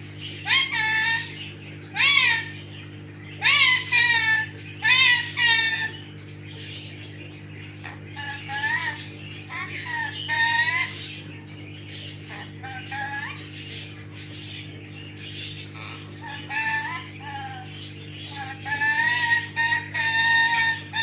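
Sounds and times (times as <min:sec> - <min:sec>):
parrot calling: 0:00.2 - 0:21.0.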